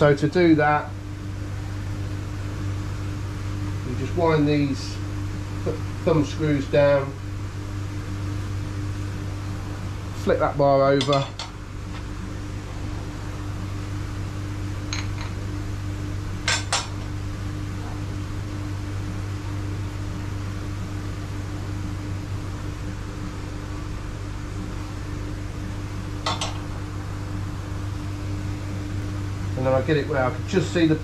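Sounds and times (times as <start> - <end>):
low hum: 0.7 - 31.0.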